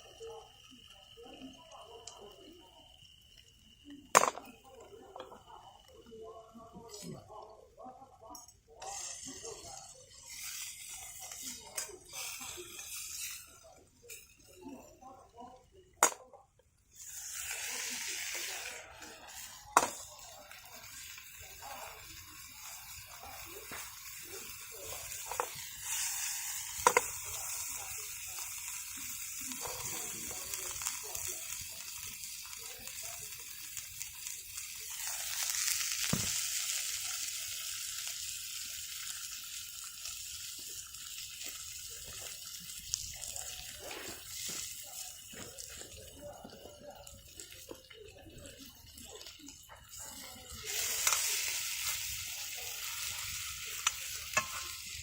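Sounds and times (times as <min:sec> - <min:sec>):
food sizzling in a pan: 0:00.0 - 0:55.0
utensils clicking against pan: 0:08.3 - 0:15.1, 0:17.0 - 0:55.0.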